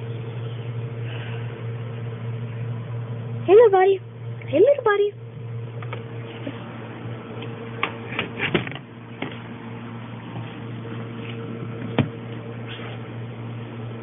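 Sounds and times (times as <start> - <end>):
incubator fan humming: 0.0 - 14.0.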